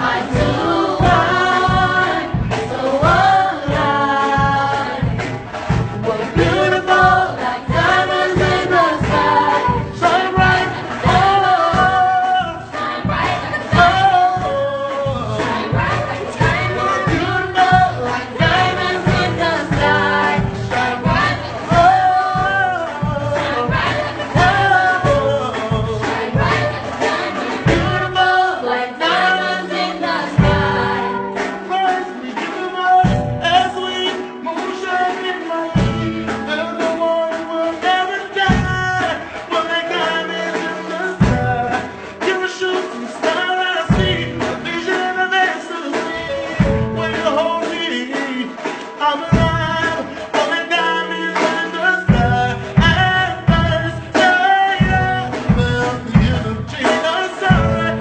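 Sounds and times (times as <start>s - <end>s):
instrumental backing track: 0.0s - 58.0s.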